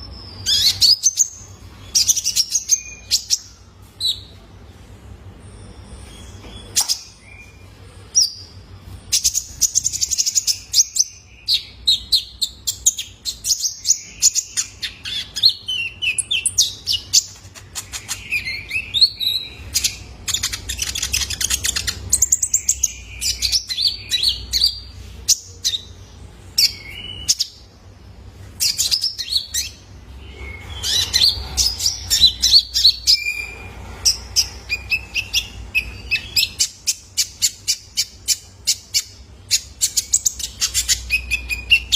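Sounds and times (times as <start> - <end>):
sunbird high chirps and trills: 0.0 - 27.7, 28.4 - 41.9.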